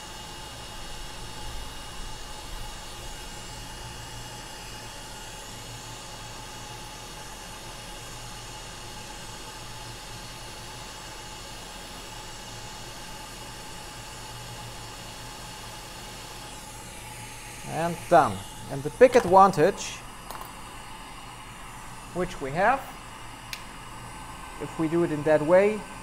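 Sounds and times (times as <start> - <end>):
faint steady whine: 0.0 - 26.0
hot air blower hissing: 0.0 - 26.0.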